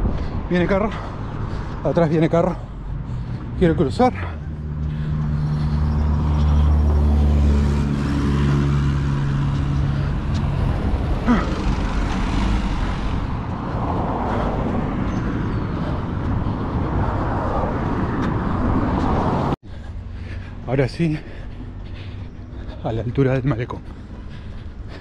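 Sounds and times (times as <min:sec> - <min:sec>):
road noise rush: 0:00.0 - 0:25.0
truck engine drone: 0:02.7 - 0:23.2.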